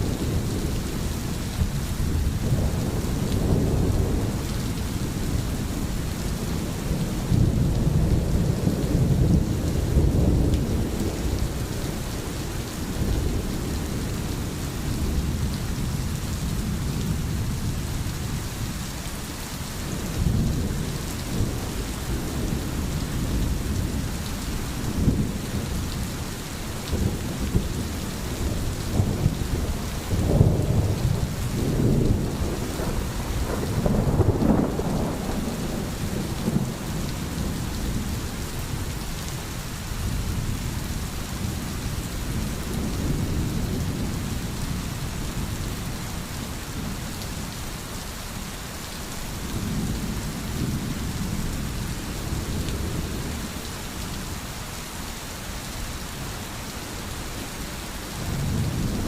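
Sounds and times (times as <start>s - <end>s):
low rolling thunder: 0.0s - 18.2s, 19.8s - 39.0s, 40.0s - 47.5s, 49.4s - 53.7s, 58.2s - 59.0s
heavy rain: 0.0s - 59.0s.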